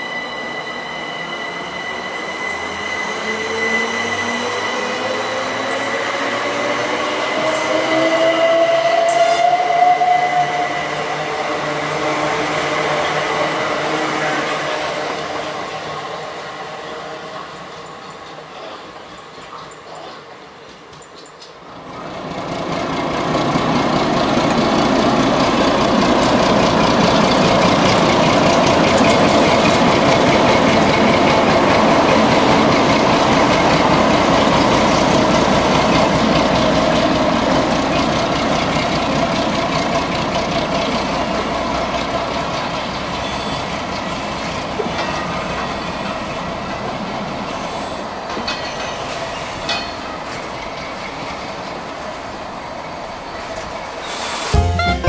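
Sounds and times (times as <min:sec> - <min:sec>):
train wheels rattling on rails: 0:00.0 - 0:54.6.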